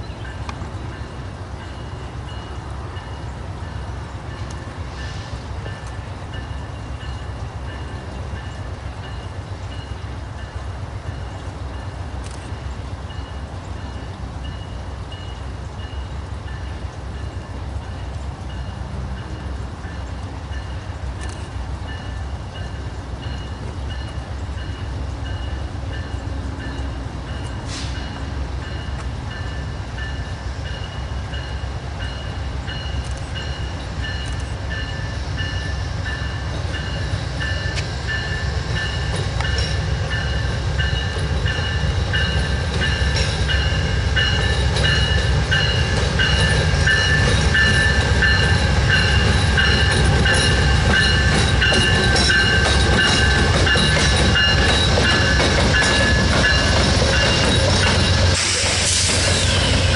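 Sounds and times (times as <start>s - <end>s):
train rumbling by: 0.0s - 59.9s.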